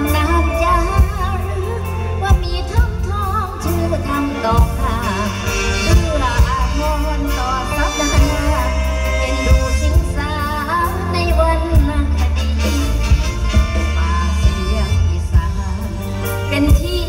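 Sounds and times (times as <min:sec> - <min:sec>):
amplified concert music: 0:00.0 - 0:17.0
singer with vibrato: 0:00.0 - 0:17.0.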